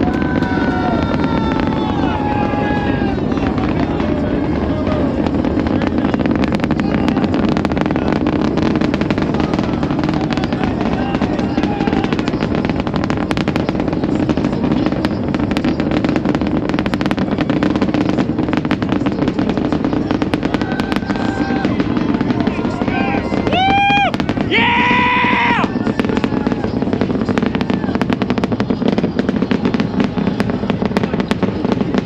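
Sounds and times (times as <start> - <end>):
distant rocket engines rumbling: 0.0 - 32.0.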